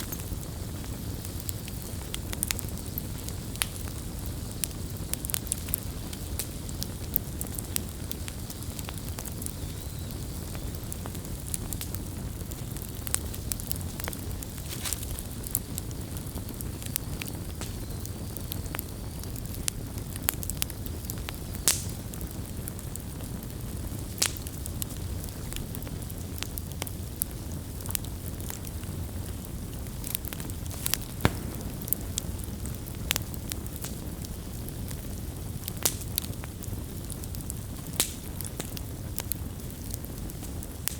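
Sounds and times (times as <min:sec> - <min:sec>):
campfire crackling and popping: 0:00.0 - 0:40.9
fire low rumble: 0:00.0 - 0:40.9.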